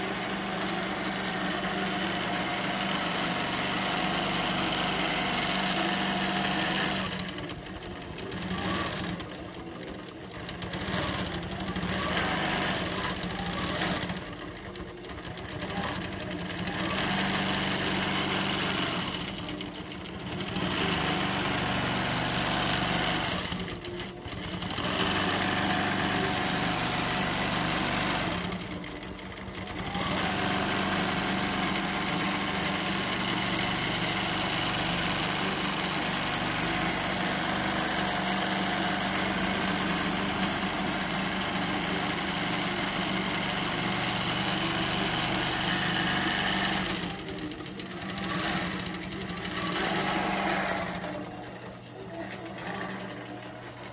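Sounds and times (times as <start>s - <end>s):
quilting machine stitching: 0.0s - 53.9s.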